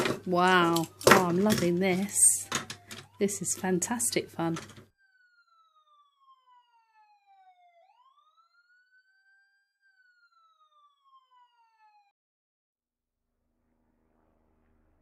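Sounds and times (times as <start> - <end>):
faint siren wailing: 0.0 - 12.2.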